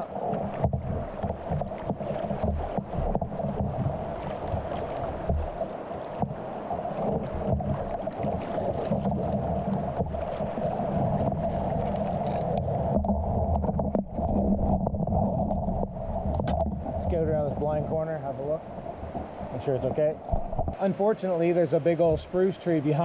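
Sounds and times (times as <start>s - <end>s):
paddle splashes and knocks: 0.0s - 23.0s
river water running: 0.0s - 23.0s.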